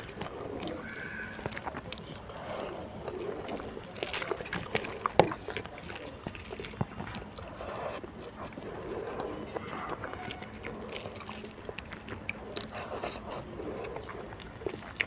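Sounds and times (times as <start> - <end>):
chewing with full mouth: 0.0 - 15.0.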